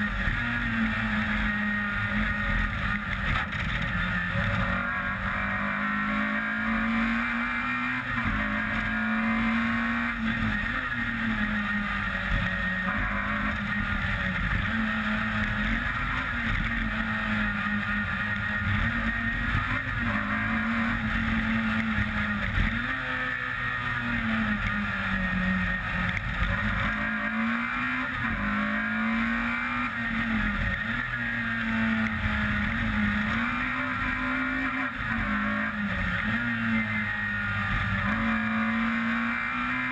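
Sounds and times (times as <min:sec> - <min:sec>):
rally car engine revving: 0:00.0 - 0:39.9
road and wind noise: 0:00.0 - 0:39.9.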